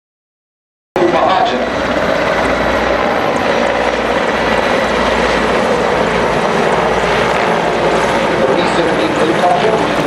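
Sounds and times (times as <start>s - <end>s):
helicopter rotor and engine noise: 1.0s - 10.0s.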